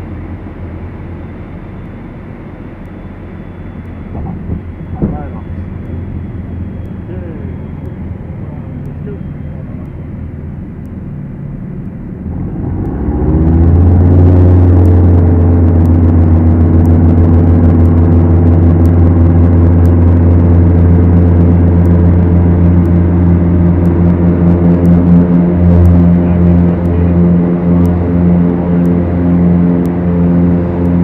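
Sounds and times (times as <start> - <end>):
twin piston aircraft engines: 0.0 - 31.0.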